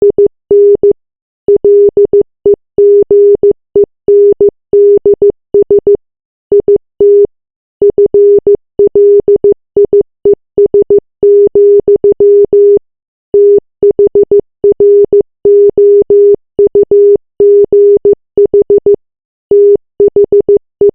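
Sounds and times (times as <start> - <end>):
morse code beeps: 0.0 - 2.2, 2.8 - 10.0, 10.6 - 12.8, 13.4 - 20.9.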